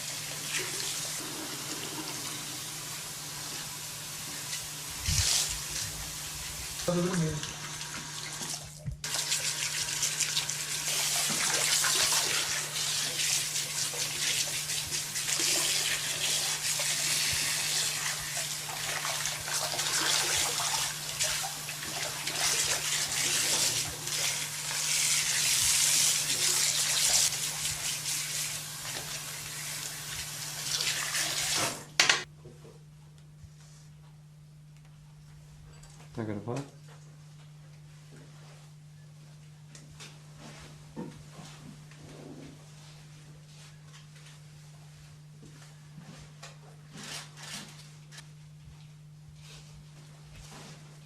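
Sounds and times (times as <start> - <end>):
low electrical hum: 0.0 - 51.0.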